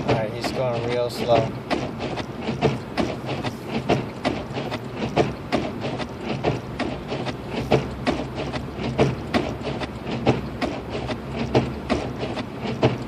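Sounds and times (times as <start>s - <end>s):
low hum of engine and road: 0.0s - 13.0s.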